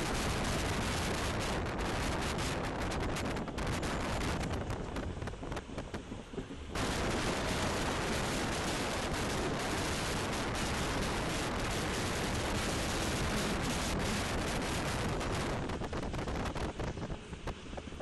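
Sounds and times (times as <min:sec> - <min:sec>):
train wheels rumbling on track: 0:00.0 - 0:18.0
wind buffeting microphone: 0:00.0 - 0:18.0.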